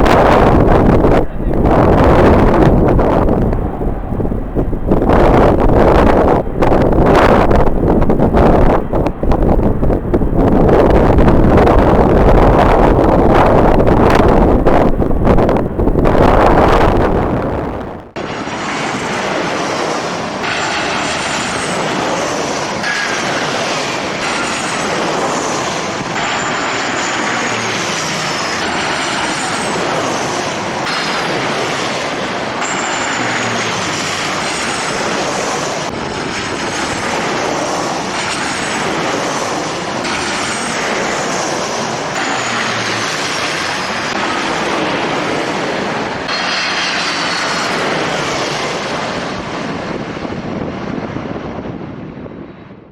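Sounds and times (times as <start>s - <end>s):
jet engines with turbine whine: 0.0s - 52.9s.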